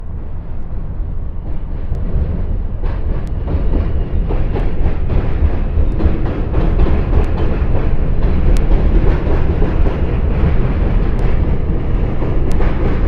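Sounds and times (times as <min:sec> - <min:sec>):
subway train rumbling: 0:00.0 - 0:13.0
wheels clicking on track: 0:01.4 - 0:13.0.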